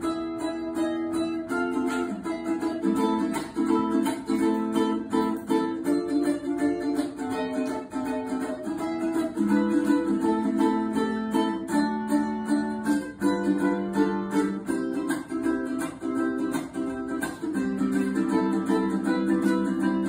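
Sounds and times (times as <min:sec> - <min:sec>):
ukulele melody over chords: 0:00.0 - 0:20.0.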